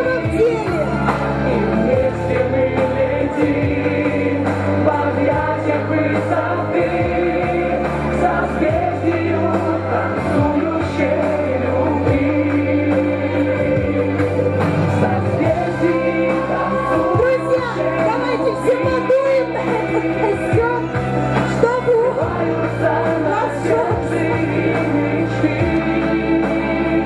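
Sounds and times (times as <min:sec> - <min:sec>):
bass and band accompaniment: 0:00.0 - 0:27.0
pop song with singing: 0:00.0 - 0:27.0.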